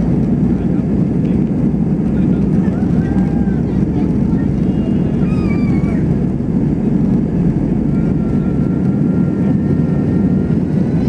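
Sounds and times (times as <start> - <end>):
jet engines rumbling in cabin: 0.0 - 11.0
runway noise: 0.0 - 11.0.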